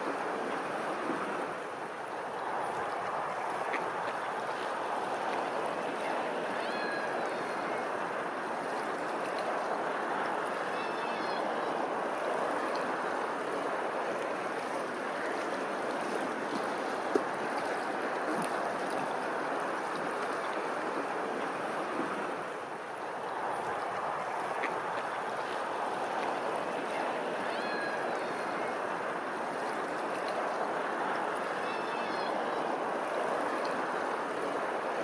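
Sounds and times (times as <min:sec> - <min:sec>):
running water: 0:00.0 - 0:35.0.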